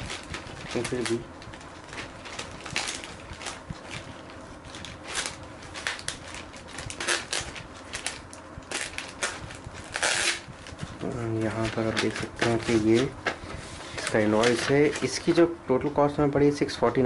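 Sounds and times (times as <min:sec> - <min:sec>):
plastic mailer bag crinkling: 0:00.0 - 0:15.5.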